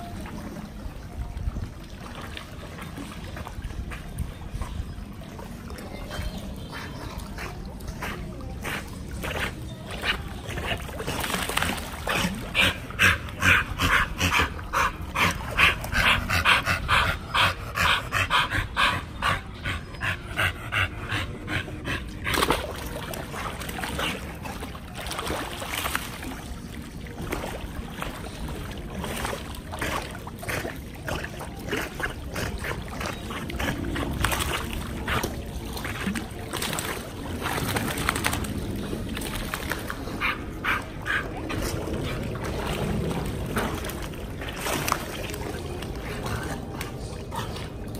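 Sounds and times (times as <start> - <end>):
water splashing: 0.0 - 20.1, 20.7 - 47.9.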